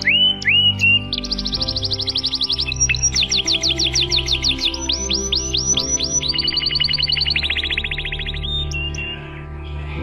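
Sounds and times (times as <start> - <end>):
soft ambient music: 0.0 - 10.0
songbird singing: 0.0 - 10.0.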